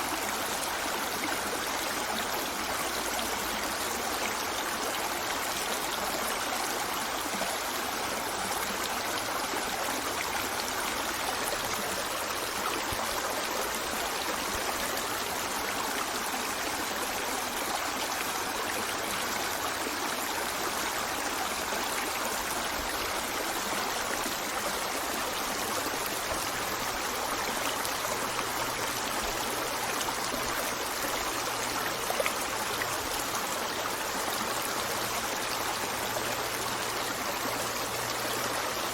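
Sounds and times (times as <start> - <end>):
stream of water trickling: 0.0 - 38.9.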